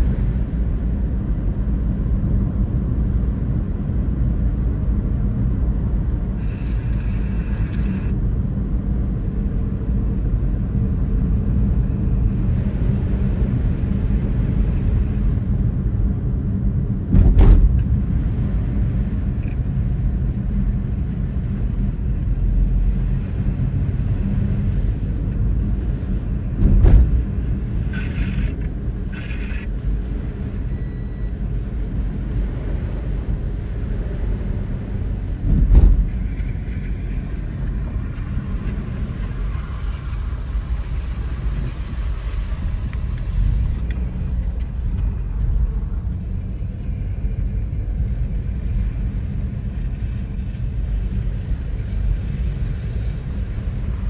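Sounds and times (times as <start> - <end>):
car driving on wet road: 0.0 - 54.0.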